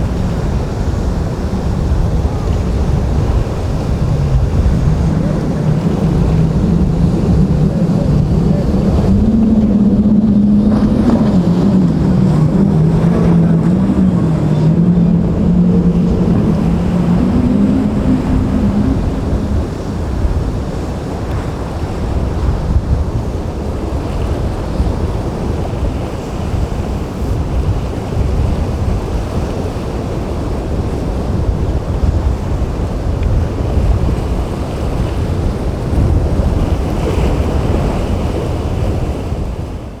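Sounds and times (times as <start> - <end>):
boat engine running: 0.0 - 40.0
waves and surf: 0.0 - 40.0
wind on microphone: 0.0 - 40.0.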